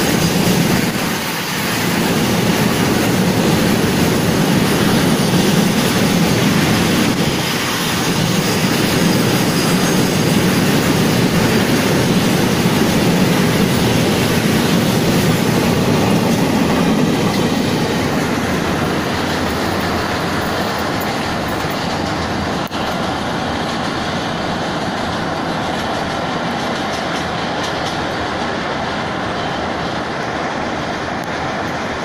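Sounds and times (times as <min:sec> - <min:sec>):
freight train wheels clattering: 0:00.0 - 0:32.0.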